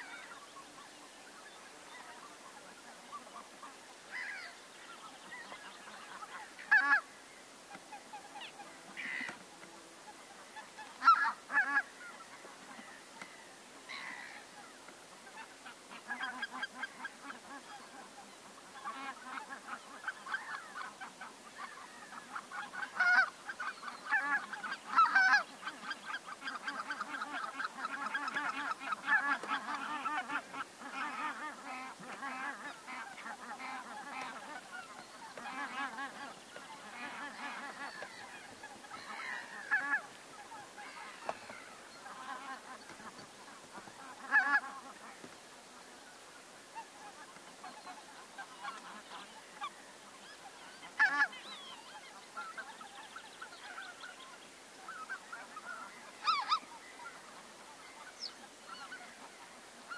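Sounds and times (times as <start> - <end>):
geese honking: 0.0 - 7.1, 7.7 - 46.2, 46.8 - 59.9.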